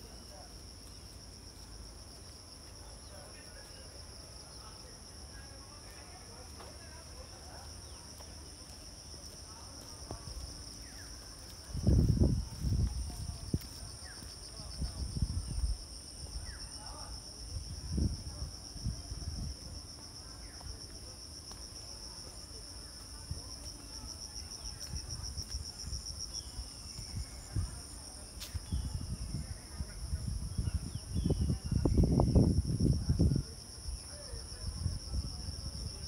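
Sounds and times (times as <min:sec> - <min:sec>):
shrill insect chorus: 0:00.0 - 0:36.0.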